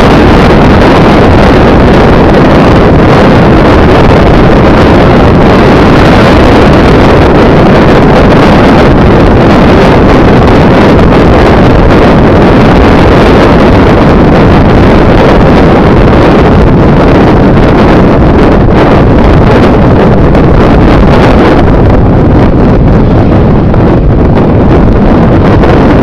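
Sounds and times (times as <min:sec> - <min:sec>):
engine and road noise: 0:00.0 - 0:26.0
wind buffeting microphone: 0:00.0 - 0:26.0.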